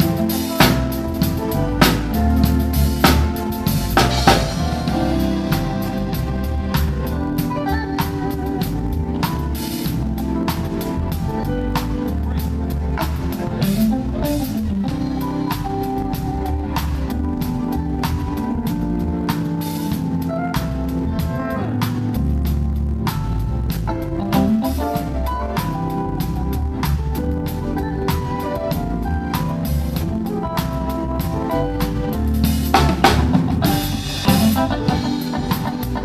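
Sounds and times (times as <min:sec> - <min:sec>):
bass guitar: 0:00.0 - 0:36.0
drum kit beat: 0:00.0 - 0:36.0
electric guitar: 0:00.0 - 0:36.0.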